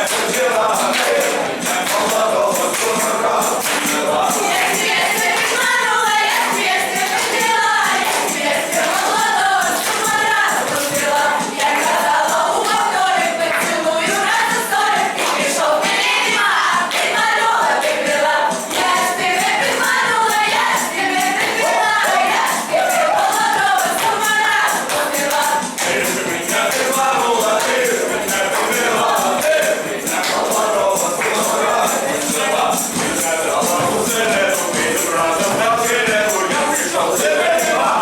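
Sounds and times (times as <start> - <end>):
group singing folk song: 0.0 - 38.0
tambourine beating rhythm: 0.0 - 38.0.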